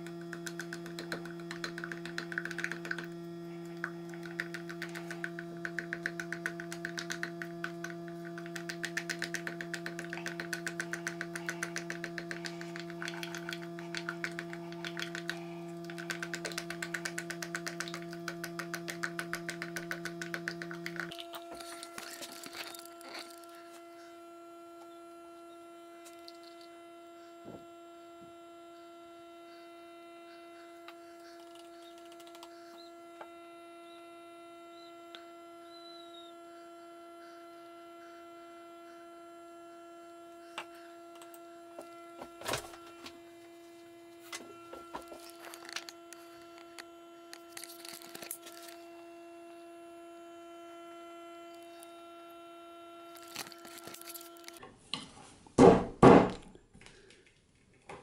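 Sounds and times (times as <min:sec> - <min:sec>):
steady hum: 0:00.0 - 0:57.3.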